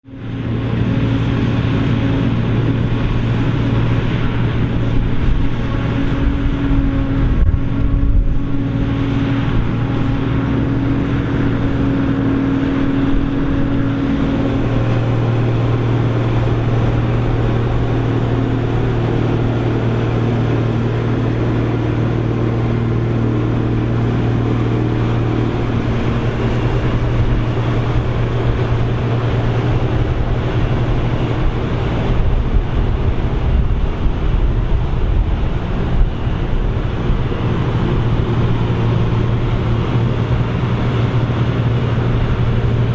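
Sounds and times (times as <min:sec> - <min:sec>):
forage harvester diesel drone: 0:00.0 - 0:42.9
higher steady hum: 0:00.0 - 0:42.9.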